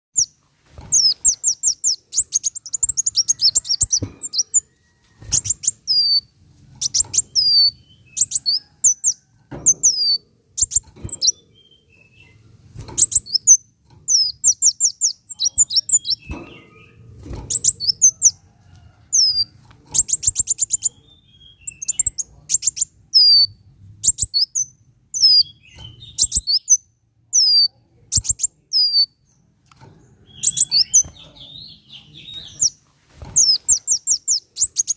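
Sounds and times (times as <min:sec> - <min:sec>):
sunbird singing: 0:00.2 - 0:18.4, 0:19.1 - 0:29.5, 0:30.1 - 0:32.8, 0:33.4 - 0:34.9.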